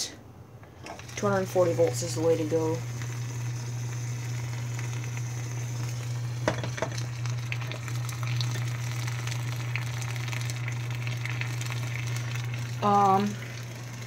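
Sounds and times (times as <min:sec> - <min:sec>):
low electrical hum: 0:00.0 - 0:14.0
water sizzling and crackling: 0:00.7 - 0:14.0.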